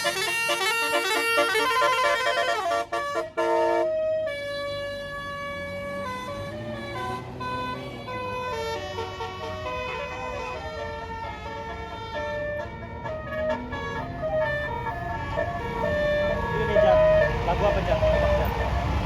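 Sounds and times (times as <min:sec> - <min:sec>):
musical air horn melody: 0:00.0 - 0:17.4
low rumble of bus engine: 0:00.0 - 0:19.0.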